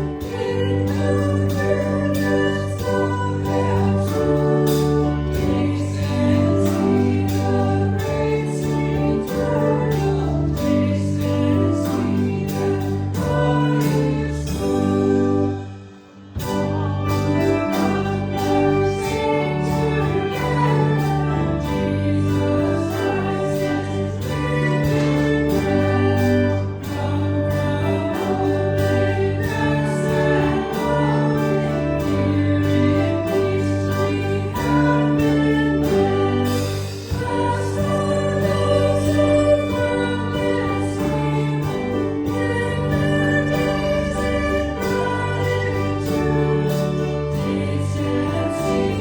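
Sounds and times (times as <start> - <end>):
choir singing a hymn: 0.0 - 49.0
instrumental accompaniment: 0.0 - 49.0.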